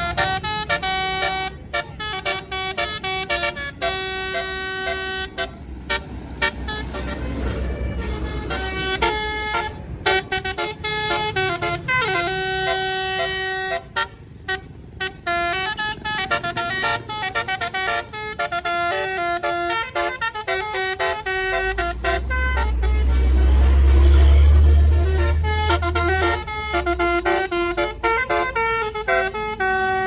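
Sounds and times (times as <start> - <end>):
bus horn playing a melody: 0.0 - 30.0
low bus rumble: 0.0 - 30.0.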